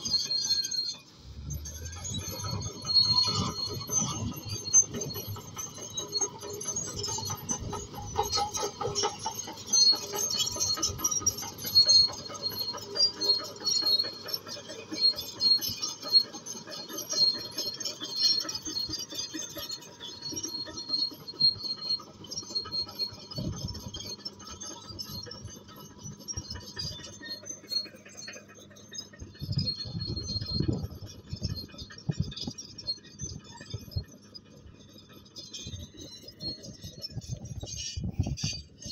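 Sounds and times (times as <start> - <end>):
metallic clatter of steel tracks: 0.0 - 38.9
diesel engine droning: 1.0 - 32.9.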